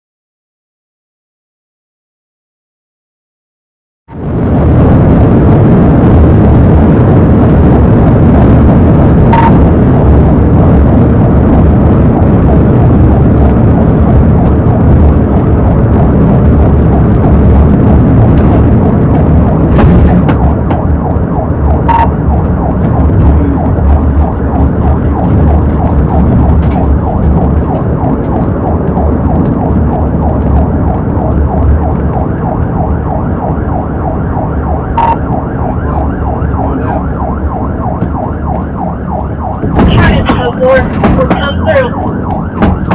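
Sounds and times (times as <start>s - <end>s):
car engine and road noise: 4.1s - 42.9s
police siren: 4.1s - 42.9s.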